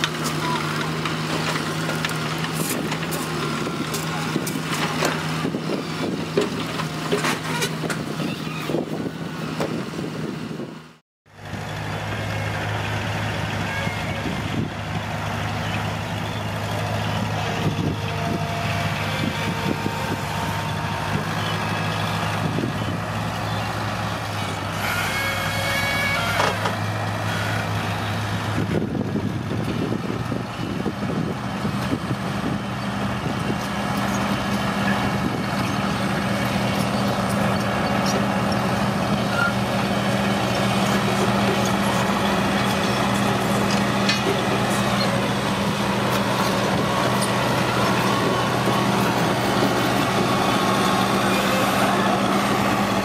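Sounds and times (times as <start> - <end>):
diesel engine of heavy machinery: 0.0 - 53.0.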